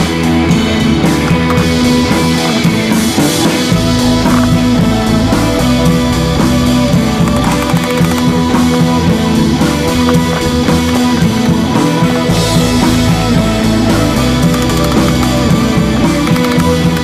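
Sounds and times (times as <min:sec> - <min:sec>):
rock music with drums and guitar: 0:00.0 - 0:17.0.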